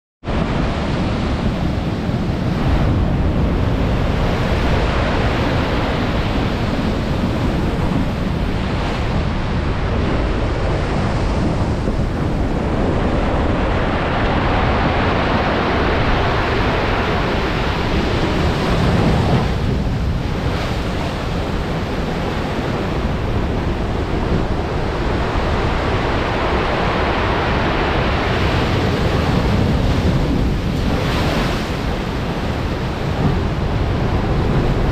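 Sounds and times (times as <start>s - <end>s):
wind buffeting microphone: 0.2s - 34.9s
waves breaking: 0.3s - 34.9s.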